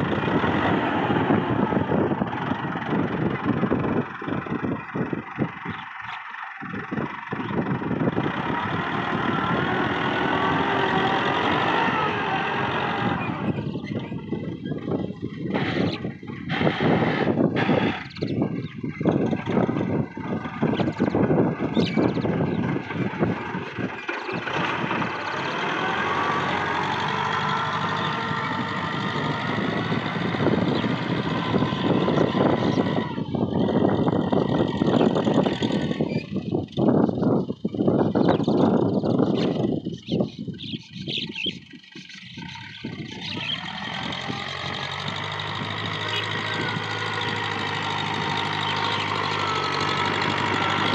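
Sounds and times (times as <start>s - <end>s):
rotary tiller in soil: 0.0s - 37.2s, 40.6s - 50.9s
tractor diesel engine under load: 0.0s - 50.9s.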